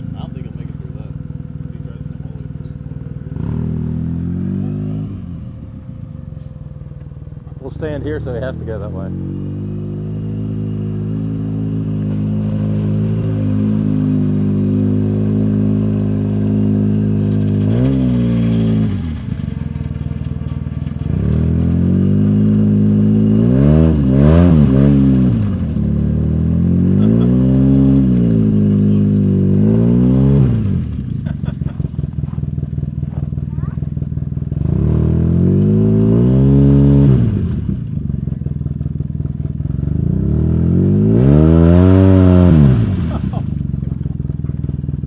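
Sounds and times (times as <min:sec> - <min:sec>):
atv engine revving: 0:00.0 - 0:45.0.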